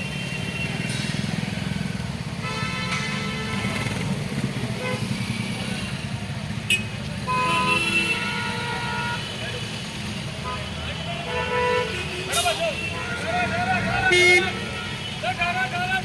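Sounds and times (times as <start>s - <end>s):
traffic engine rumble: 0.0s - 16.0s
vehicle horns honking: 2.3s - 4.1s, 4.7s - 15.8s.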